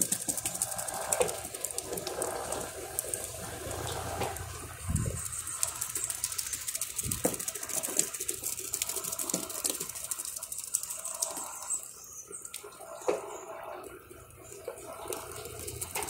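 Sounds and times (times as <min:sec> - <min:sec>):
washing machine agitating: 0:00.0 - 0:16.0
water trickling: 0:00.0 - 0:16.0.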